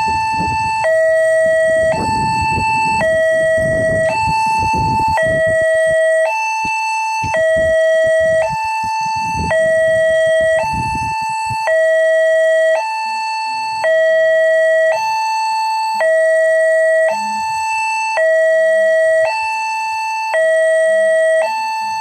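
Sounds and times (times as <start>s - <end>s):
level crossing two-tone alarm: 0.0s - 22.0s.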